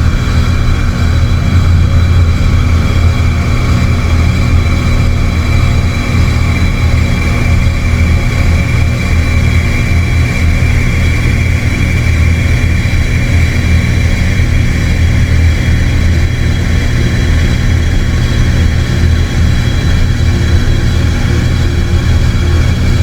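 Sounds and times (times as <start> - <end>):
dark ambient synthesizer drone: 0.0 - 23.0.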